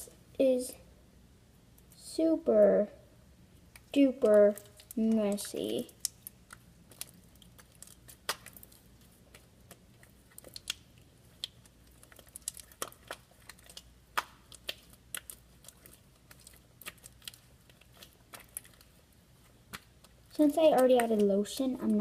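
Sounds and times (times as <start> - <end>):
slime squelching by hand: 3.5 - 22.0.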